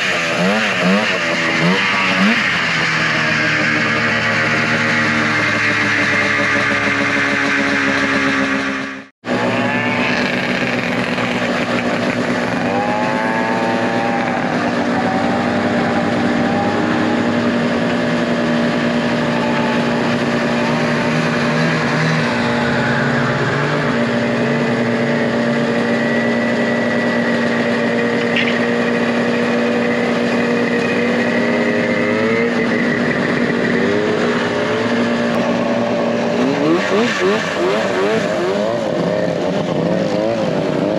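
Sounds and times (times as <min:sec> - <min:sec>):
snowmobile engines idling: 0:00.0 - 0:40.9
snowmobile engines revving: 0:00.0 - 0:40.9.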